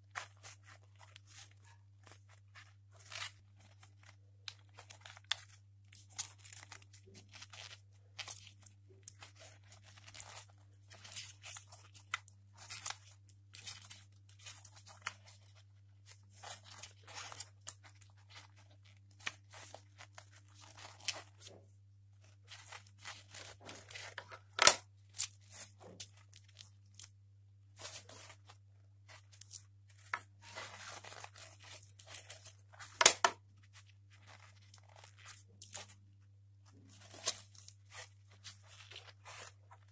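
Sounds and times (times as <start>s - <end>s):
gloves rustling on plastic case: 0.0s - 27.1s, 27.7s - 39.9s
low steady hum: 0.0s - 39.9s.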